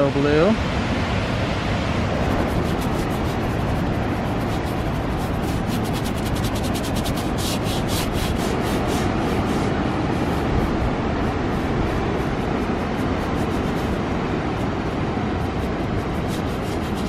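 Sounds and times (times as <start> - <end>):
steady rushing background noise: 0.0 - 17.0
bristle brush scrubbing canvas: 2.2 - 17.0.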